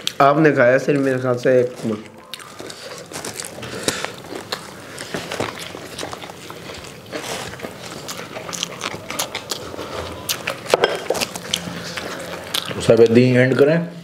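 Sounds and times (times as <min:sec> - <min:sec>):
people chewing and lip smacking: 0:00.0 - 0:14.0.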